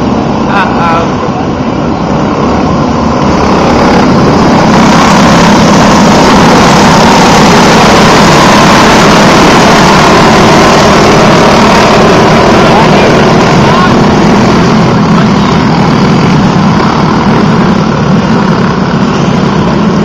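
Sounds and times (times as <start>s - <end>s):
kart engines racing: 0.0s - 20.0s.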